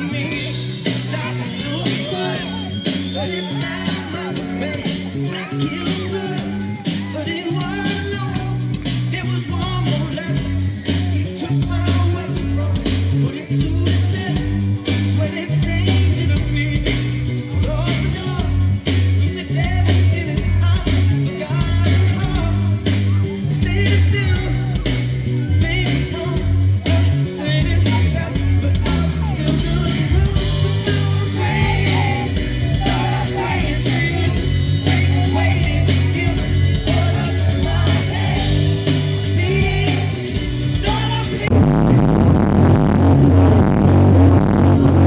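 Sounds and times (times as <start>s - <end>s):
person singing: 0.0s - 18.6s, 19.2s - 42.3s
heavy pulsing bass line: 0.0s - 45.0s
live band playing soul-pop: 0.0s - 45.0s.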